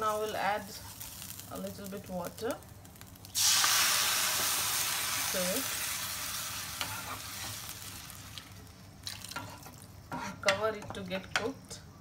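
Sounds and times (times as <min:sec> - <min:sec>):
water sizzling in hot pan: 0:00.0 - 0:10.0.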